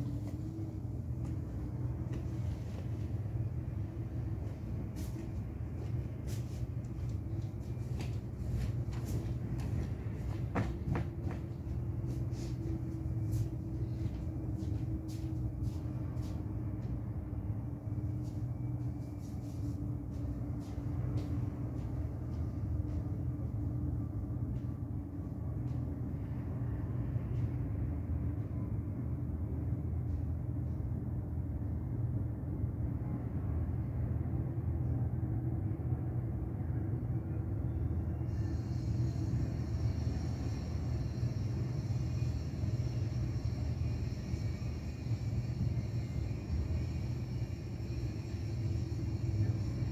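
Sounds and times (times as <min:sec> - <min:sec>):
city traffic rumble: 0:00.0 - 0:49.9
faint steady hum: 0:00.0 - 0:49.9.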